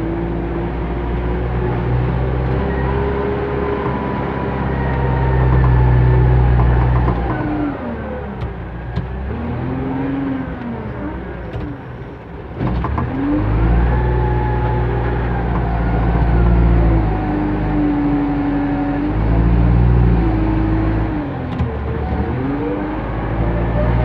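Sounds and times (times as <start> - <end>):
diesel engine under load: 0.0 - 24.0.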